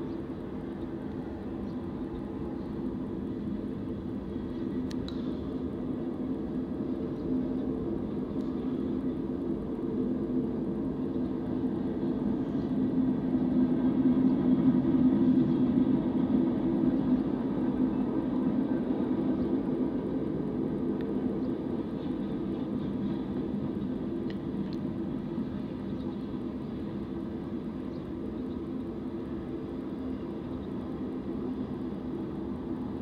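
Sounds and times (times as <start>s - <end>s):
train wheels rumbling on rails: 0.1s - 33.0s.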